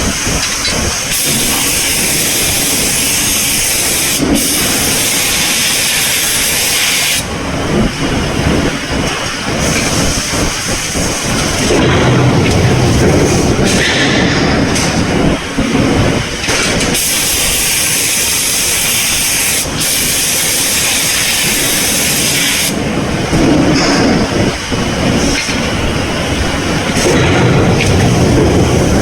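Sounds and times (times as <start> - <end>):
loud hiss: 0.0 - 8.2, 9.4 - 29.0
machinery rumbling: 0.0 - 29.0.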